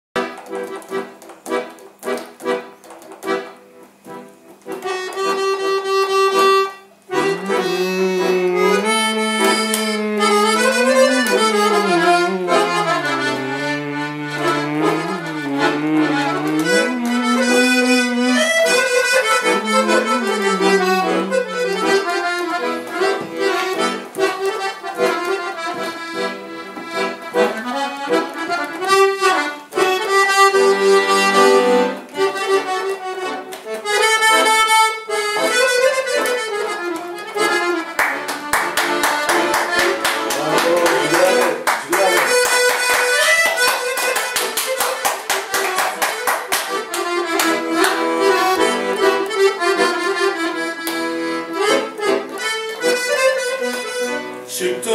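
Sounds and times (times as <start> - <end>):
accordion playing folk melody: 0.2 - 54.9.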